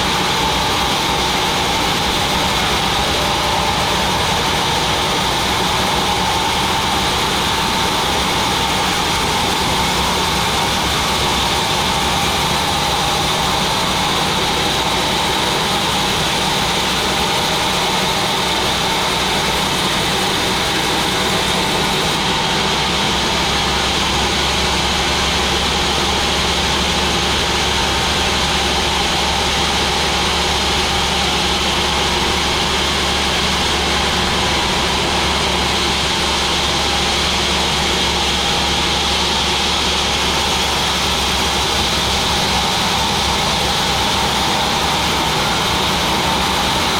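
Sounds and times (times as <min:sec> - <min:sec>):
sawmill machine running: 0:00.0 - 0:46.9.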